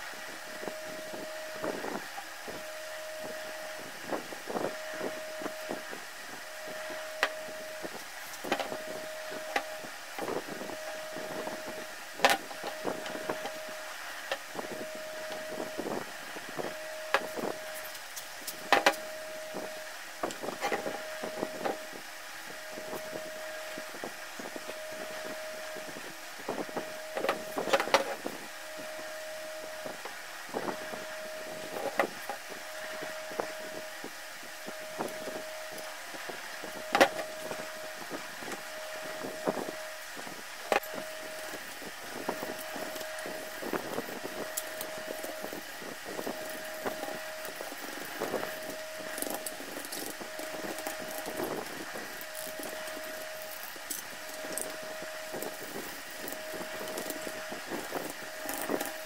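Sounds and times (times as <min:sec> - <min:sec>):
long electronic beeps: 0:00.0 - 0:59.0.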